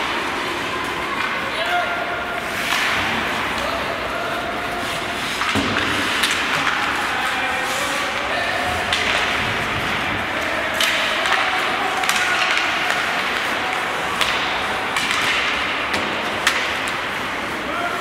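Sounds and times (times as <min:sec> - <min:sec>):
hockey sticks and puck clacking: 0:00.0 - 0:18.0
skates scraping on ice: 0:02.4 - 0:18.0.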